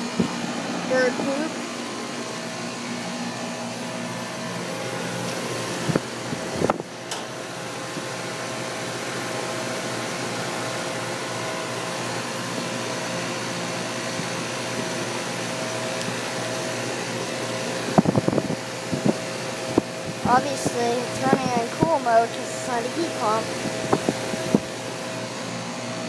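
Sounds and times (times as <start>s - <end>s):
compressor hum: 0.0s - 26.0s
condenser fan rushing: 0.0s - 26.0s.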